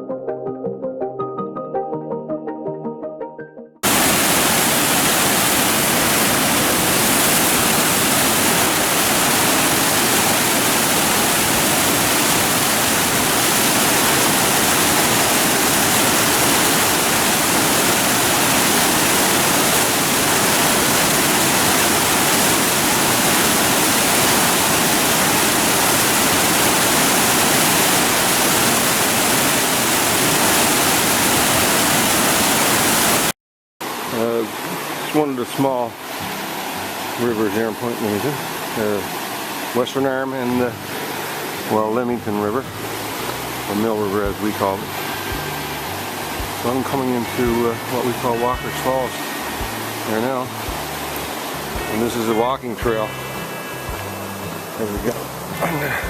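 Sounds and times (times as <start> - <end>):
river water rushing: 3.8 - 52.4, 53.0 - 56.0.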